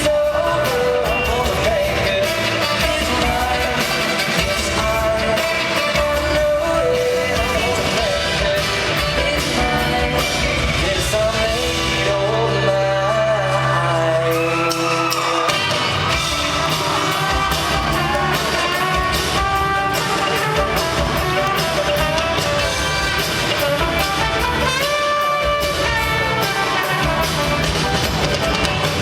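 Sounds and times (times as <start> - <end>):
live pop-rock band: 0.0 - 29.0
man singing: 0.0 - 29.0.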